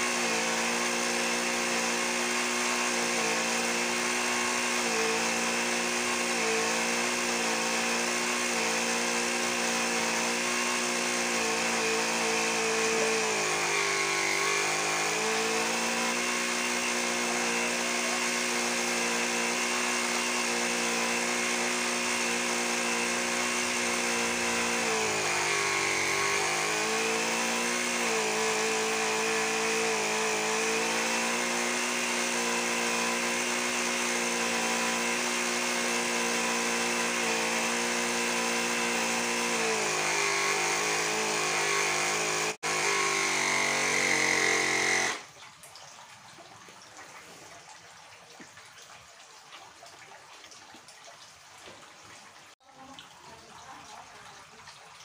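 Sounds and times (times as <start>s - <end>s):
air compressor motor buzzing: 0.0s - 45.2s.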